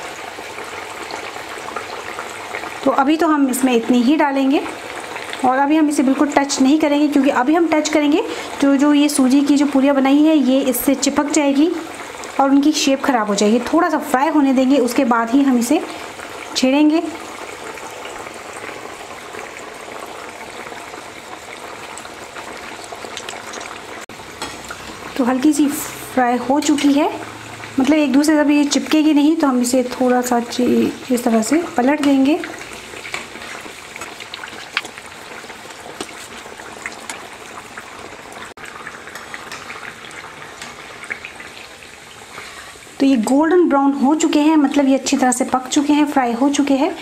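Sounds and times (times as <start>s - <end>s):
fine crackles in frying oil: 0.0s - 47.0s
oil sizzling and bubbling: 0.0s - 47.0s.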